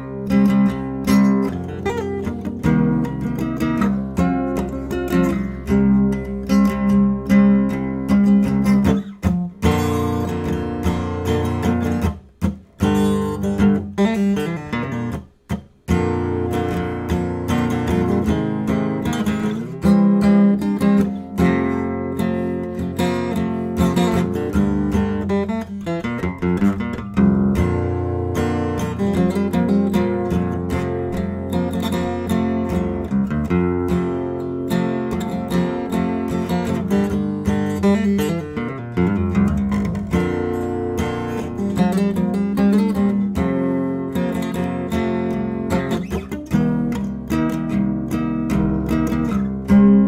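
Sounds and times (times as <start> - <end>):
acoustic guitar strumming and picking: 0.0 - 50.0.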